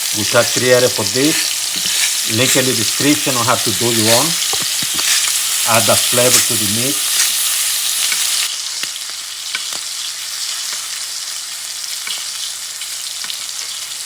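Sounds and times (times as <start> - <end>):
steak sizzling in a skillet: 0.0 - 14.0.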